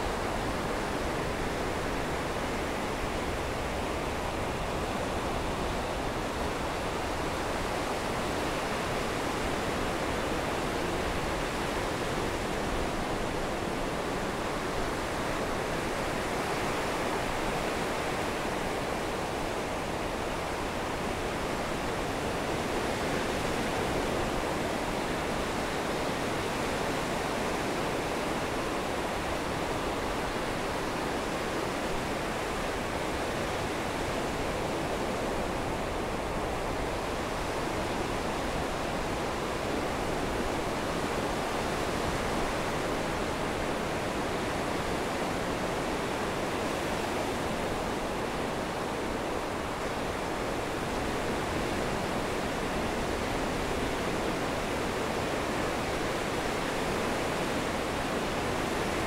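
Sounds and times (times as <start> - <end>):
surf rushing around pier pilings: 0.0 - 59.0.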